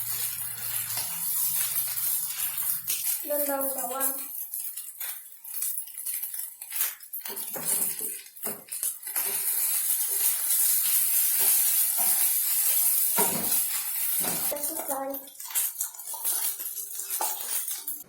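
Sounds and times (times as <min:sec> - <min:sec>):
spatula scraping a frying pan: 0:00.0 - 0:03.3, 0:04.1 - 0:18.0
frying sizzle: 0:00.0 - 0:18.0.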